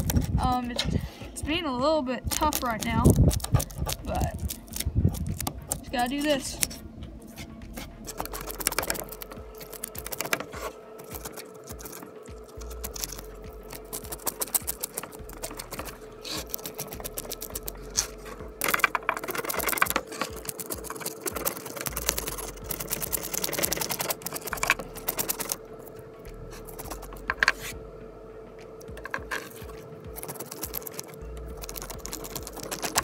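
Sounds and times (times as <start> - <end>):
spoon scraping fish scales: 2.3 - 25.6, 29.0 - 33.0.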